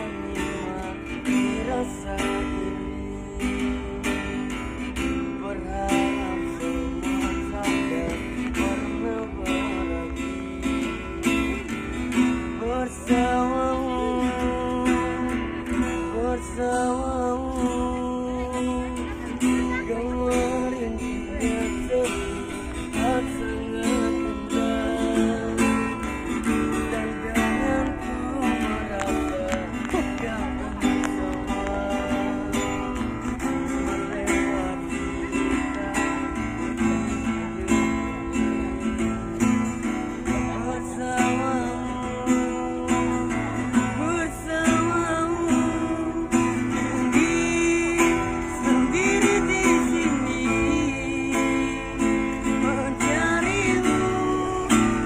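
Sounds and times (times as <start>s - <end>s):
acoustic guitar strumming: 0.0s - 55.0s
person singing: 0.0s - 55.0s.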